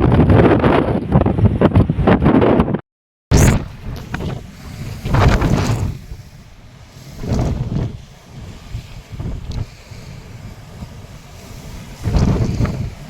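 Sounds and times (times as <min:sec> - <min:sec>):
wind buffeting microphone: 0:00.0 - 0:02.8, 0:03.4 - 0:13.0.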